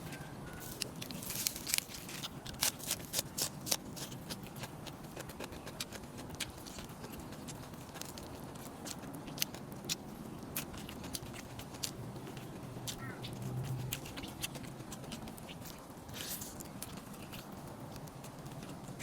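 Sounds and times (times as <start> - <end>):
low steady hum: 0.0 - 19.0
chewing clicks and smacks: 0.7 - 19.0.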